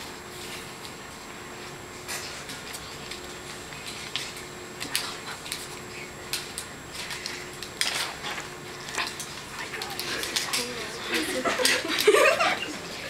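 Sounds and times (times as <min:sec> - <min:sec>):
faint steady hum and hiss: 0:00.0 - 0:13.0.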